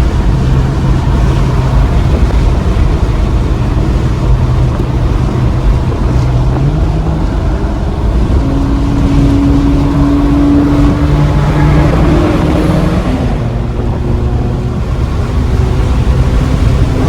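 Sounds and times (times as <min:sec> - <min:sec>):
loud car exhaust: 0:00.0 - 0:17.0.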